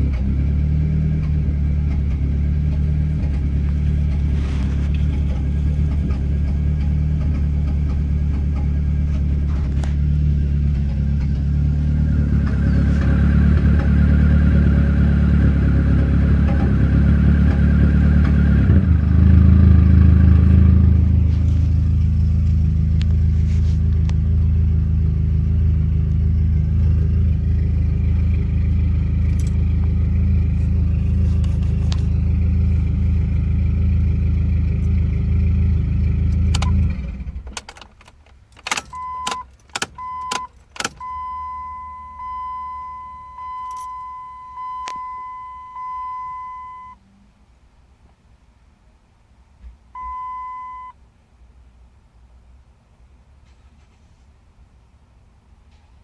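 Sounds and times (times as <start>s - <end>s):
car engine running: 0.0s - 47.5s.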